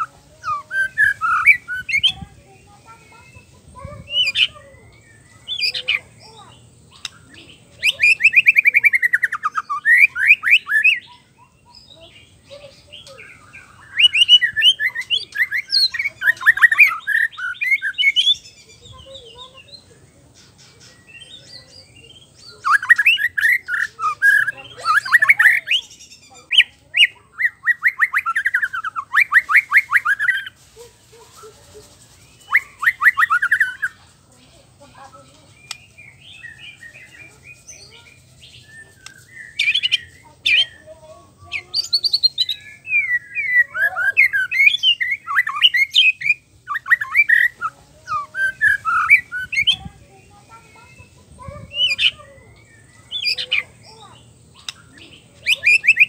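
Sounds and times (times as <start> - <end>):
bird singing whistled notes: 0.0 - 30.6, 32.0 - 34.0, 35.4 - 56.0.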